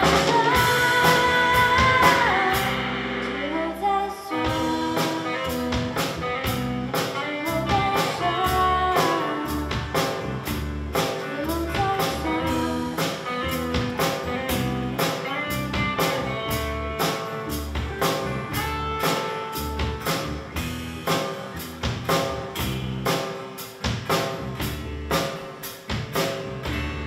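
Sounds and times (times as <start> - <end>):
bass guitar: 0.0 - 27.0
drum kit beat with cymbals: 0.0 - 27.0
electric guitars: 0.0 - 27.0.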